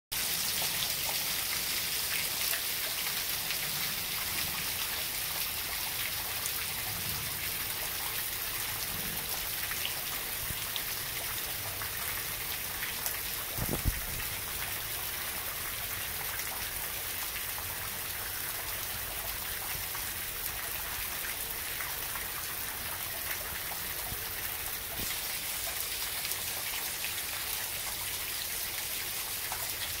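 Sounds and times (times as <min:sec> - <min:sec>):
steady rain falling: 0:00.2 - 0:30.0.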